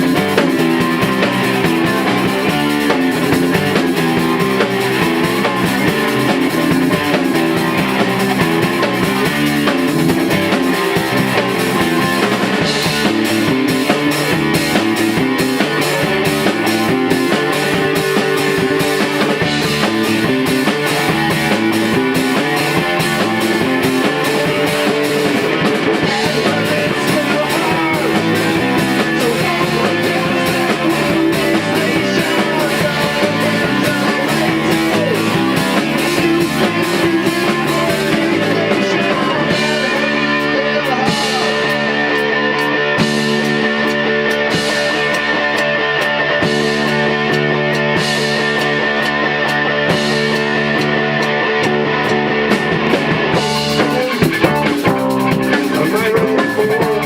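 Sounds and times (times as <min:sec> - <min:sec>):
guitars: 0:00.0 - 0:57.0
steady drum beat: 0:00.0 - 0:57.0.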